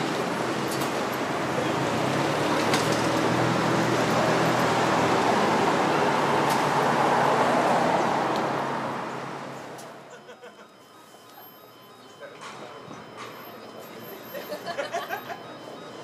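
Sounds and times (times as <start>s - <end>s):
bus passing: 0.0s - 16.0s
street traffic: 0.0s - 16.0s.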